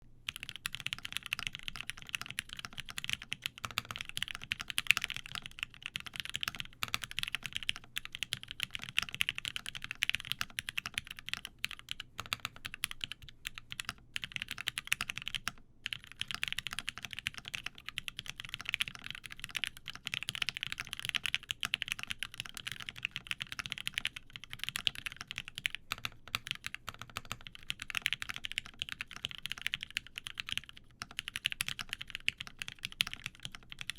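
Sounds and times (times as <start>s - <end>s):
fast typing on mechanical keyboard: 0.3s - 33.9s.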